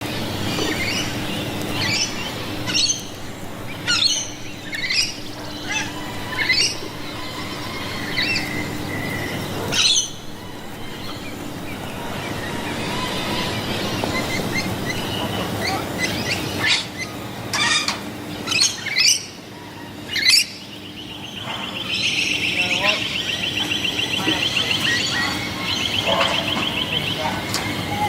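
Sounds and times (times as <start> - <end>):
steady low hum: 0.0 - 26.1
birds squawking: 0.0 - 28.0.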